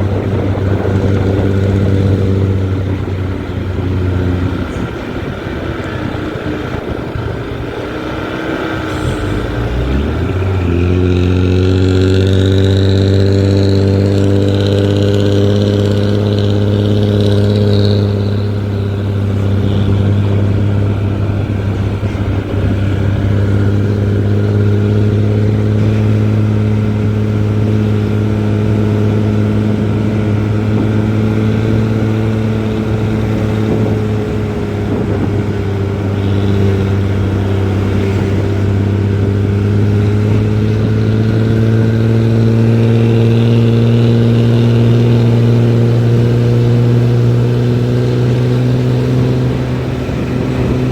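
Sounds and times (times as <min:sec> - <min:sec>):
bus diesel engine droning: 0:00.0 - 0:50.9
high whine: 0:00.0 - 0:50.9.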